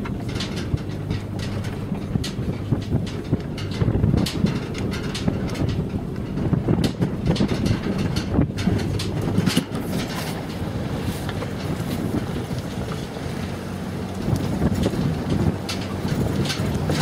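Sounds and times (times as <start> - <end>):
car engine running: 0.0 - 17.0
tyres rumbling on dirt: 0.0 - 17.0
wind buffeting microphone: 0.0 - 17.0.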